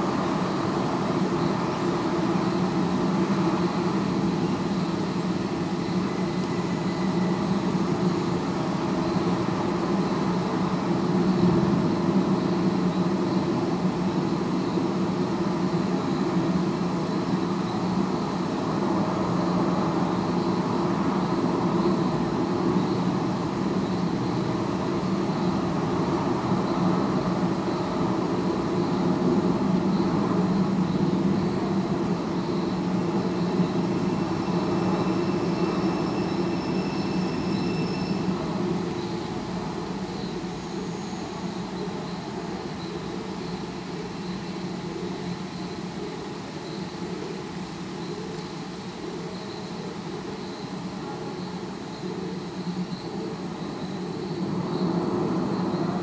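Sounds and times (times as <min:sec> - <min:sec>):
distant city traffic hum: 0:00.0 - 0:56.0.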